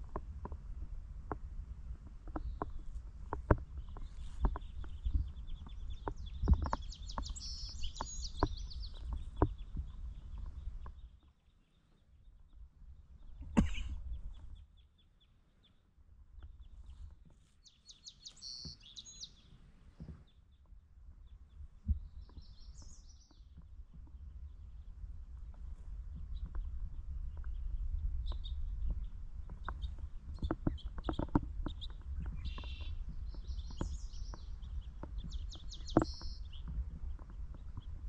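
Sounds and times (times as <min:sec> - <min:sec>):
songbird singing: 0:00.0 - 0:38.0.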